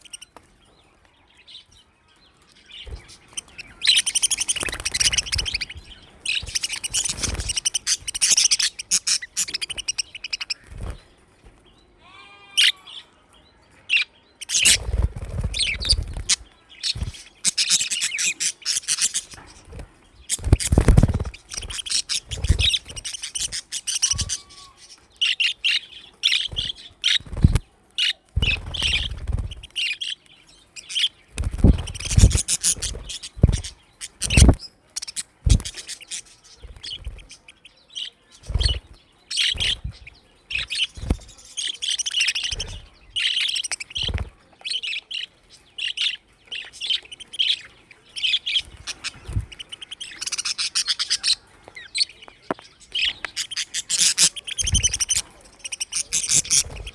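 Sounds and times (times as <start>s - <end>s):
budgerigars chirping and chattering: 0.0s - 56.9s.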